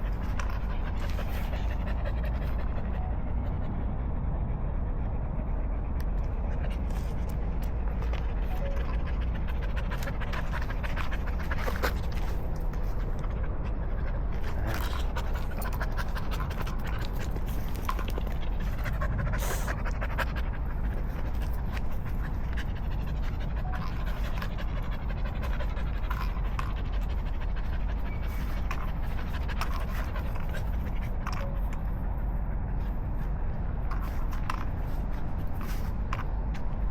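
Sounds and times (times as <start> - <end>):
dog panting: 0.0 - 36.9.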